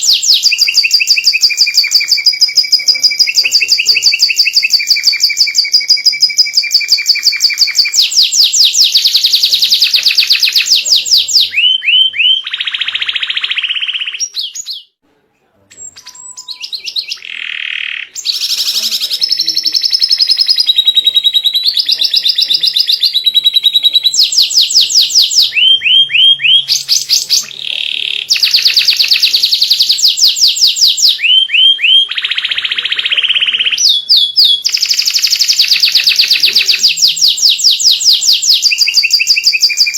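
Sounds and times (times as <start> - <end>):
canary singing trills: 0.0 - 15.0, 15.7 - 39.9.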